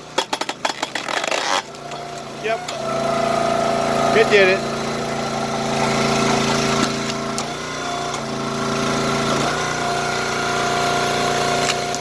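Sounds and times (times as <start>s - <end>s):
log splitter gas engine running: 0.0s - 12.0s.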